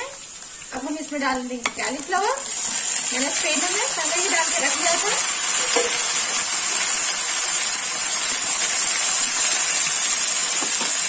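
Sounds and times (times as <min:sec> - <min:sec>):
vegetables frying in hot oil: 0:00.0 - 0:11.0.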